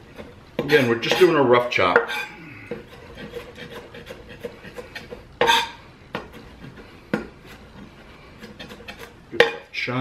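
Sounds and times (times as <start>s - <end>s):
knife chopping on wooden board: 0.1s - 1.3s, 1.9s - 9.7s.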